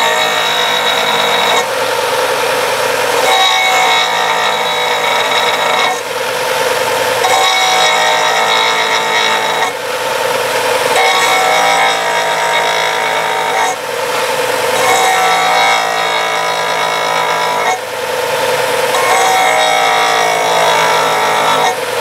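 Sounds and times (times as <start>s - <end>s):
grinding rasp: 0.0s - 22.0s.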